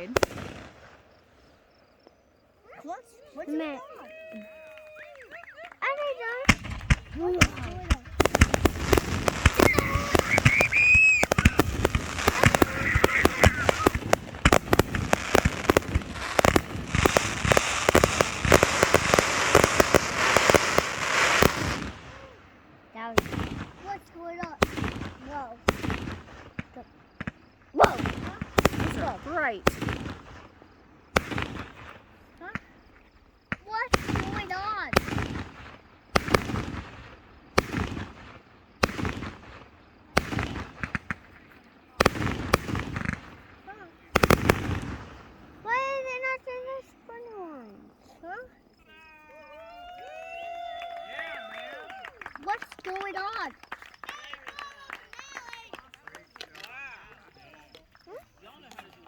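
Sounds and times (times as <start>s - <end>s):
dense crackling: 0.0s - 47.7s
fireworks bangs: 0.0s - 59.0s.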